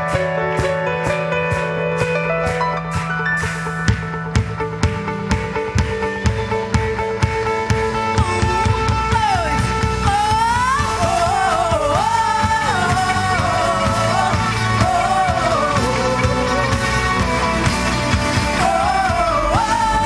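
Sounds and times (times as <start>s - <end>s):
gospel rock band playing: 0.0s - 20.0s
sliding lead melody: 0.0s - 20.0s.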